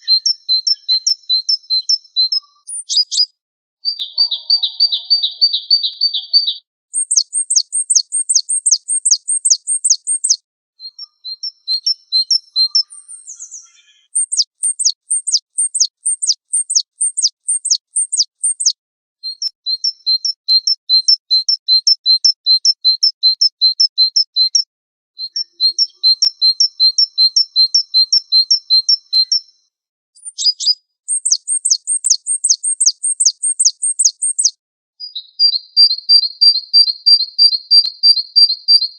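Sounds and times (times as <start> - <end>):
small songbird singing: 0.0 - 38.9.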